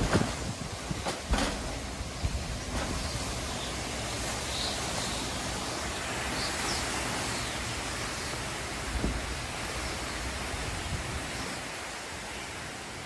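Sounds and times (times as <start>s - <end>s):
blowing rain: 0.0s - 13.0s
storm wind: 0.0s - 13.0s.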